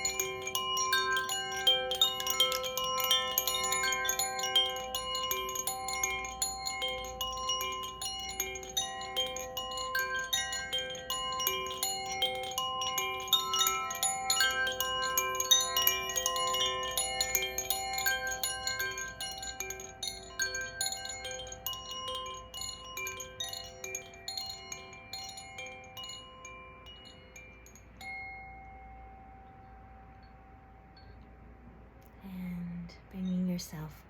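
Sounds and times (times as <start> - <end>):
wind chime ringing: 0.0 - 31.8.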